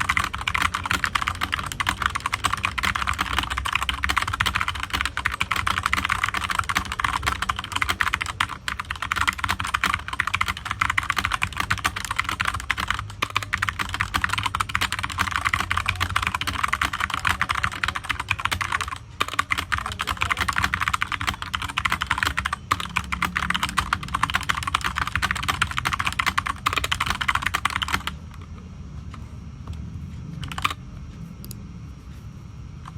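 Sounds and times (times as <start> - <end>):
mechanical keyboard typing: 0.0 - 28.5, 30.4 - 30.8.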